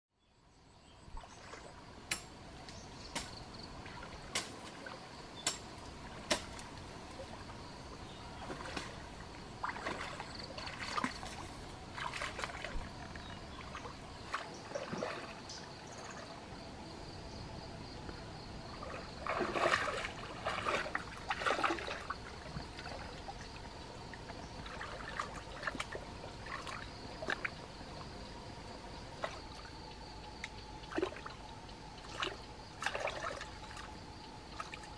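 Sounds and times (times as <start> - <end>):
stream water trickling and sloshing: 0.4 - 34.9
water splashes: 3.1 - 16.6, 18.6 - 34.9.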